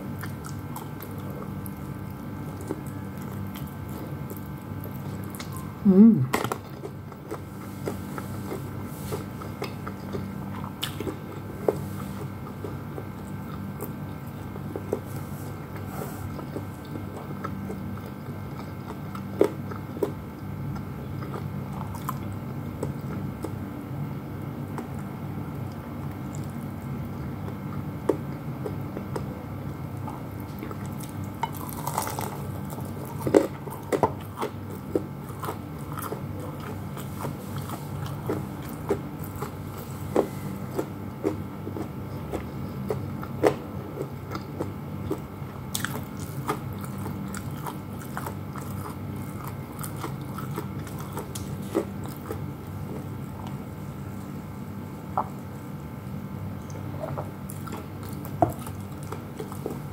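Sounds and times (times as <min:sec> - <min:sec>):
chewing crispy fried chicken: 0:00.0 - 0:59.9
low steady hum: 0:00.0 - 0:59.9.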